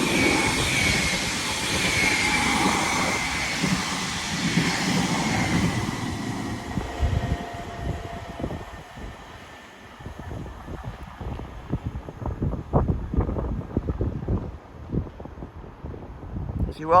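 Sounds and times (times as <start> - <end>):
train wheels rushing on rail: 0.0 - 14.5.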